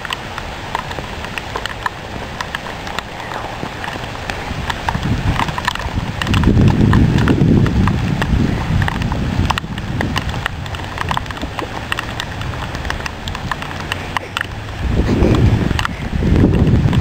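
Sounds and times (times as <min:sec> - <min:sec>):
heavy rain: 0:00.0 - 0:17.0
raindrops ticking on microphone: 0:00.0 - 0:17.0
low rumble on microphone: 0:02.1 - 0:17.0.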